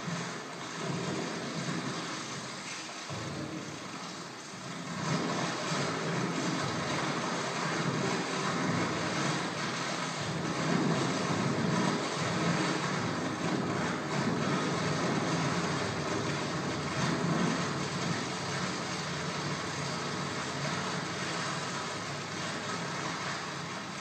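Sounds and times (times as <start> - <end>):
noisy rumbling drone: 0.0 - 24.0.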